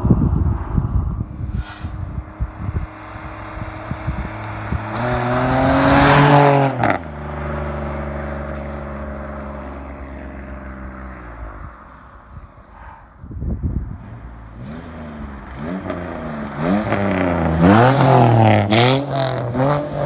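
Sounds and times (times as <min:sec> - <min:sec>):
exhaust crack: 0:00.1 - 0:20.0.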